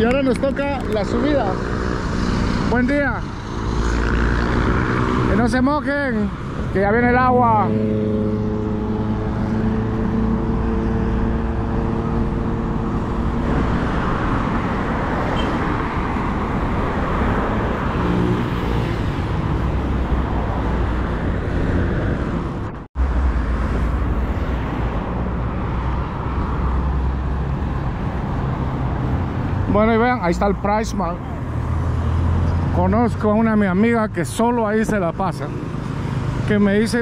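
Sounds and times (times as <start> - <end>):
passing road traffic: 0.0 - 37.0.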